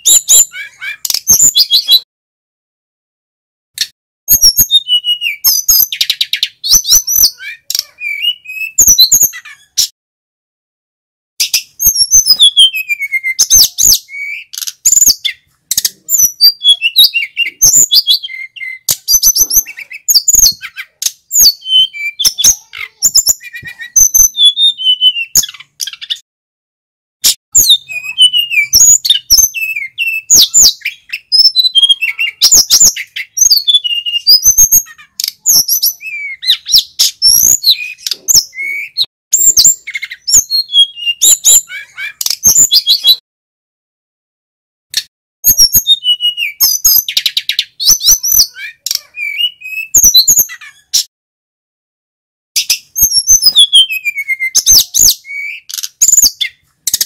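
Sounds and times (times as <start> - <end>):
bird singing chirps and trills: 0.0 - 2.1, 3.8 - 9.9, 11.4 - 26.2, 27.5 - 43.2, 45.5 - 51.1, 52.6 - 57.0.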